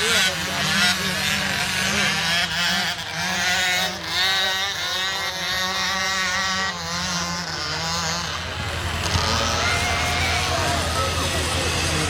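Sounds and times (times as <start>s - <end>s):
race vehicle engines revving: 0.0s - 12.0s.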